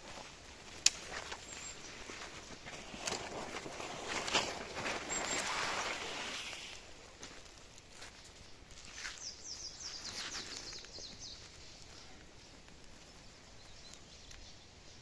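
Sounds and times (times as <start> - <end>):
footsteps in leaf litter: 0.0 - 13.8.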